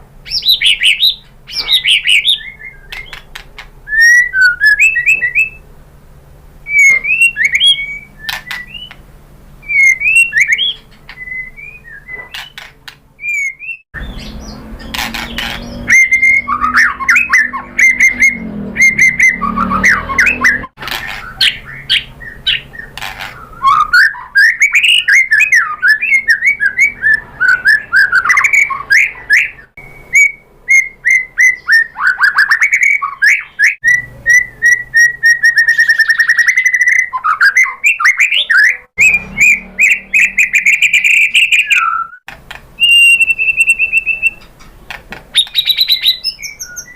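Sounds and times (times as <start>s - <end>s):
bird singing whistles and chirps: 0.3s - 3.3s, 3.9s - 5.6s, 6.7s - 9.0s, 9.6s - 44.6s, 45.3s - 46.9s.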